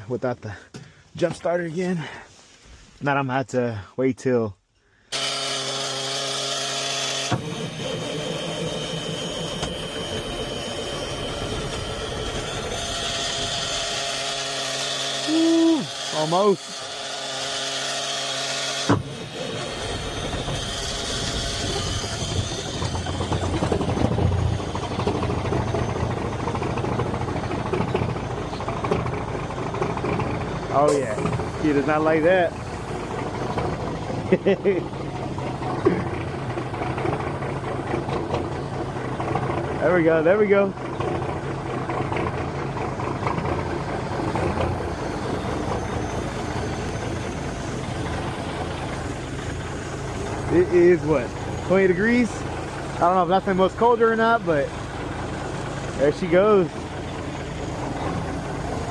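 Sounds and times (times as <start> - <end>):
diesel engine running rough: 0.0 - 2.9, 4.9 - 58.9
starter motor whining: 4.9 - 58.9.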